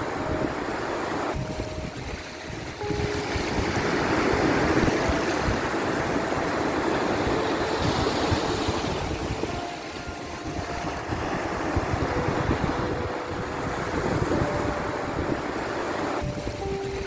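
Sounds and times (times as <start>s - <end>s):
sea waves washing in: 0.0s - 17.0s.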